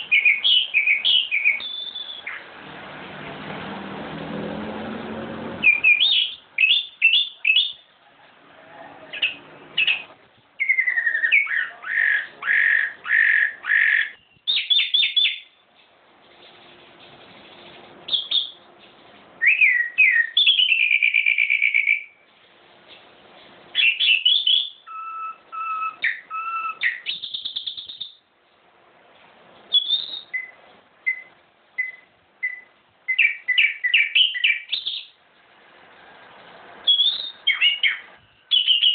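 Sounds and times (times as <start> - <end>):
songbird singing: 0.0 - 2.6, 5.6 - 15.8, 17.4 - 28.3, 29.6 - 35.2, 36.2 - 38.9.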